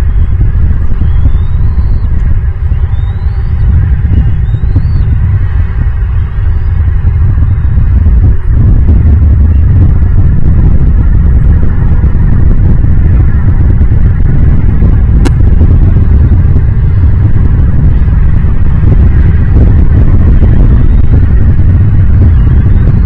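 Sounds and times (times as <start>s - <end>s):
loud low rumble: 0.0s - 23.0s.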